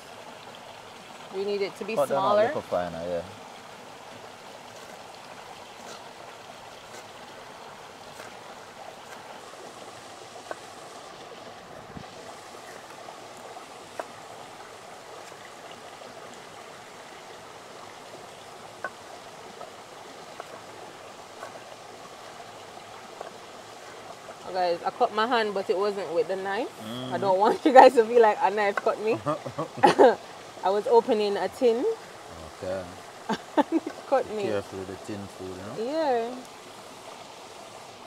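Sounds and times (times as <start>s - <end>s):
rushing stream: 0.0s - 38.0s.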